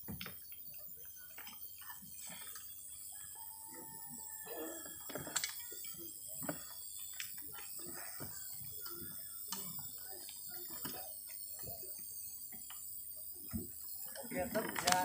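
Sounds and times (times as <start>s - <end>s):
steady hiss: 0.0s - 15.0s
soft murmurs: 0.8s - 15.0s.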